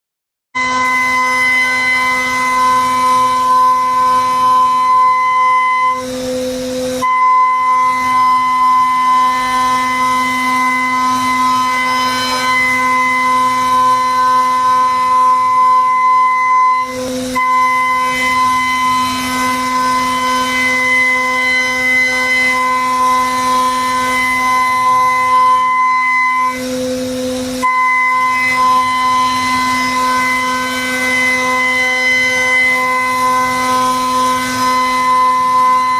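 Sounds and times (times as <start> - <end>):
milling machine whine: 0.6 - 35.9.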